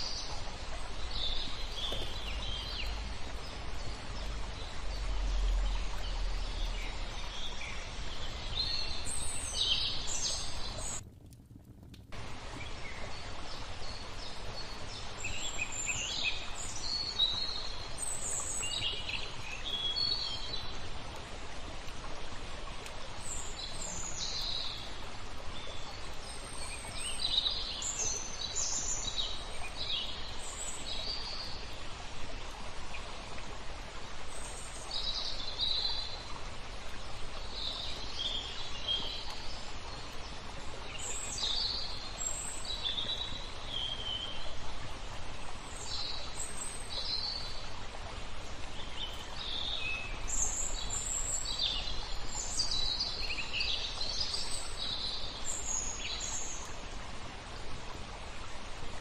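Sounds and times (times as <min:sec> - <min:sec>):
songbirds chirping: 0:00.0 - 0:11.0, 0:12.1 - 0:59.0
flowing water rushing: 0:00.0 - 0:59.0.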